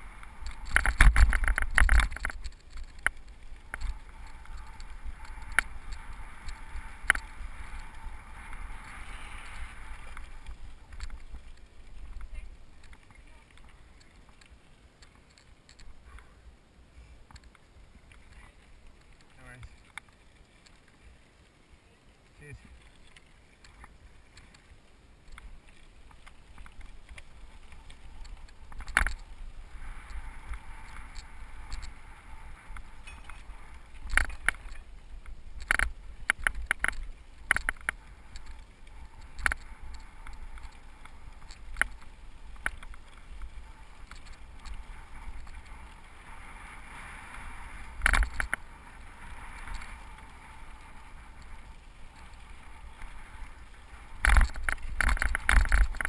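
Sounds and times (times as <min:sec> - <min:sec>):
bike knocking and rattling over bumps: 0:00.0 - 0:16.2, 0:22.9 - 0:56.0
bike tyres rumbling on dirt trail: 0:00.0 - 0:56.0.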